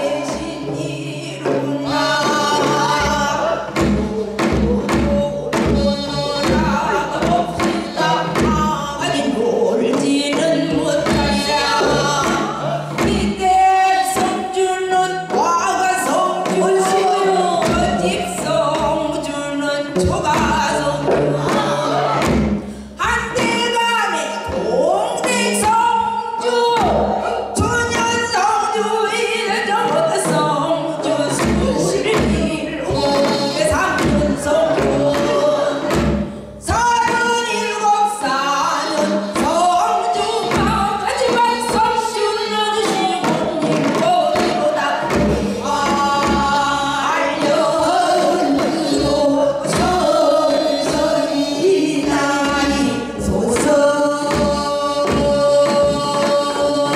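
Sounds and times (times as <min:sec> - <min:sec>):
women singing folk song: 0:00.0 - 0:56.9.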